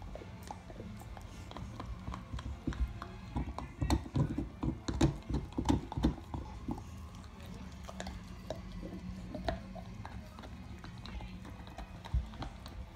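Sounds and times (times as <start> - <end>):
dog gnawing antler: 0.0 - 12.9.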